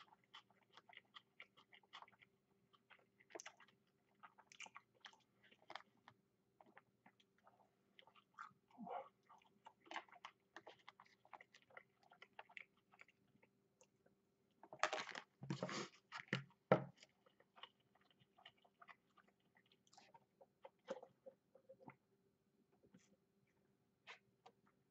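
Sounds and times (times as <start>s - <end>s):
person chewing food: 0.0s - 22.1s, 22.7s - 24.9s.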